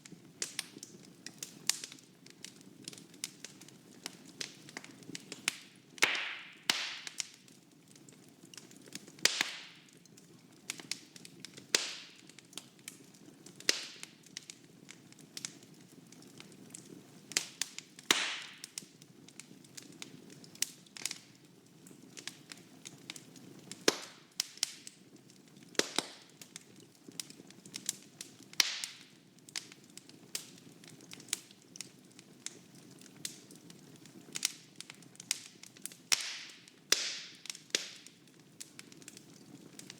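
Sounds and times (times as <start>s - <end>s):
rustle of flame: 0.0s - 39.9s
wood fire crackling: 0.0s - 39.9s
sharp pops and snaps: 0.4s - 7.5s, 8.5s - 13.0s, 13.6s - 15.6s, 16.2s - 18.9s, 19.8s - 25.0s, 25.7s - 26.6s, 27.2s - 32.6s, 34.3s - 39.9s.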